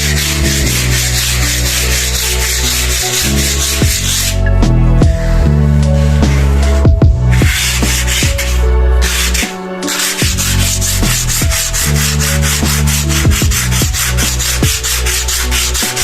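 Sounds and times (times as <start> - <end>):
sanding a wall: 0.0 - 4.5, 7.3 - 16.0
background music: 0.0 - 16.0.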